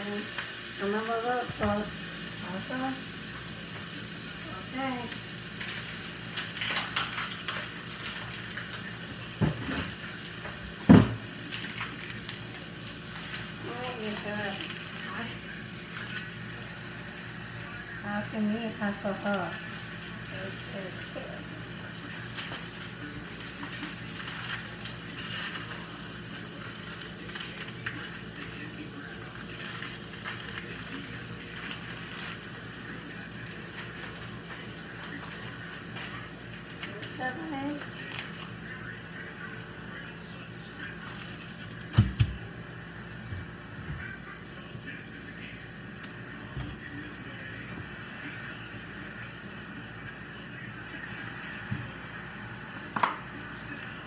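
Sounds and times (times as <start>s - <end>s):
patty sizzling on a grill: 0.0s - 54.0s
steady hiss: 0.0s - 54.0s.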